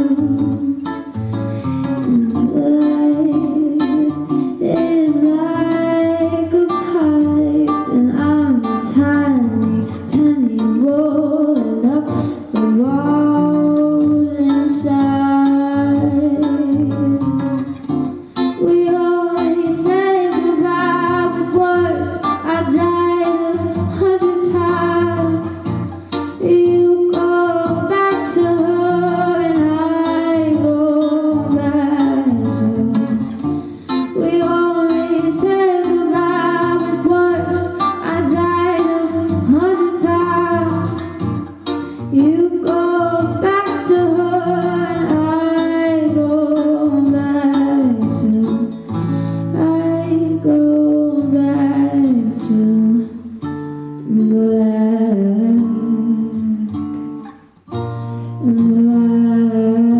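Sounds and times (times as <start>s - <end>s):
woman singing: 0.0s - 1.2s, 1.9s - 53.4s, 54.0s - 57.2s, 58.4s - 59.9s
acoustic guitar: 0.0s - 59.9s.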